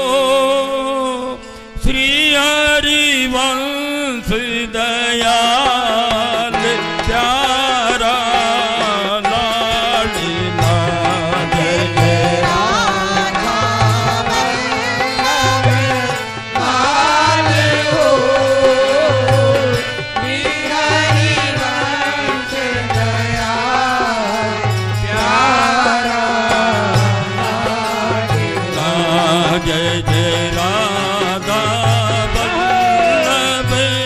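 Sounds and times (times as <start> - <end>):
devotional chant melody: 0.0 - 34.0.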